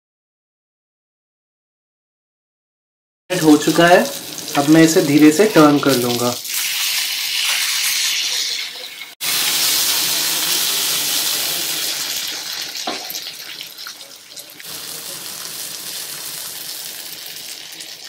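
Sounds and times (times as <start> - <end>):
fish sizzling in butter: 3.3 - 18.0.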